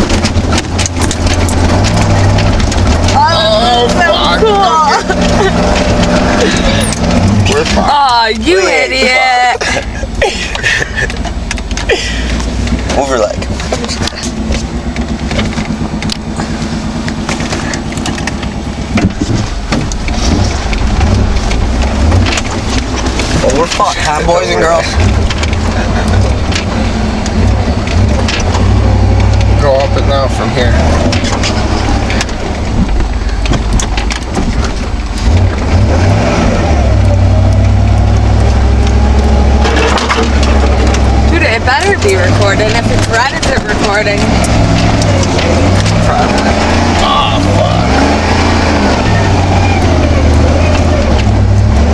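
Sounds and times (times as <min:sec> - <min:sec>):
sharp knocks and rattles: 0:00.0 - 0:03.3, 0:09.6 - 0:36.2, 0:36.9 - 0:48.8
engine running under load: 0:00.0 - 0:51.9.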